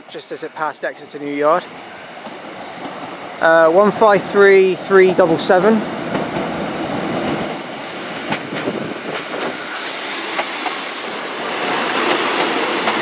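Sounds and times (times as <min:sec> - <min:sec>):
train wheel and running noise: 0:00.1 - 0:13.0.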